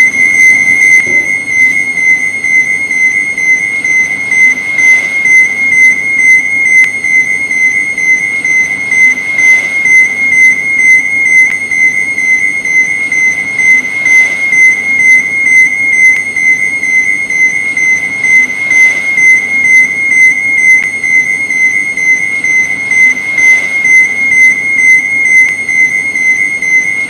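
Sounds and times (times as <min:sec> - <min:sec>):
pulsing high-pitched alarm tone: 0:00.0 - 0:27.0.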